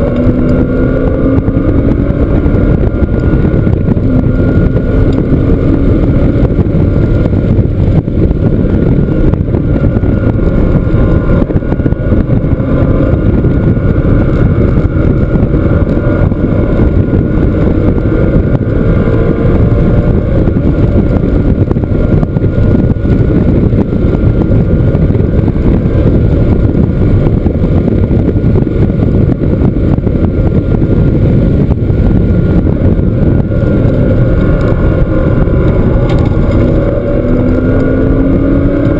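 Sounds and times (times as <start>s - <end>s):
car engine revving: 0.0s - 38.9s
wind and road noise: 0.0s - 38.9s.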